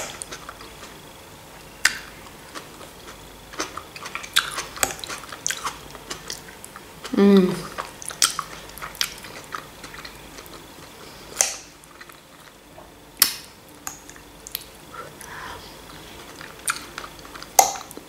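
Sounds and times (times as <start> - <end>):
chewing food: 0.0 - 1.0, 1.8 - 18.0.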